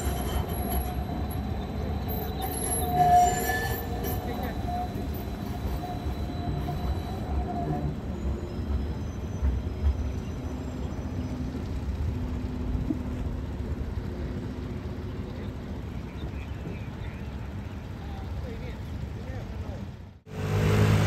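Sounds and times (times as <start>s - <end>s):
tram rumbling on track: 0.0s - 21.0s.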